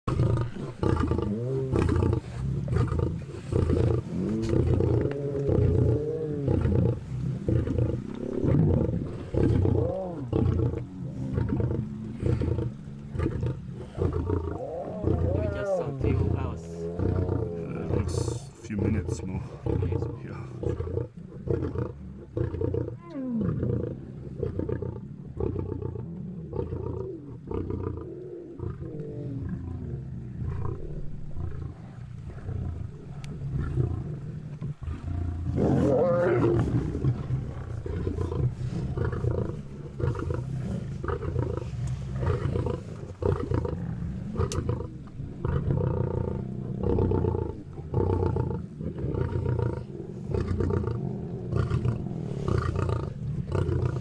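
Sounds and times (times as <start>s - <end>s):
lions growling and snarling: 0.1s - 54.0s.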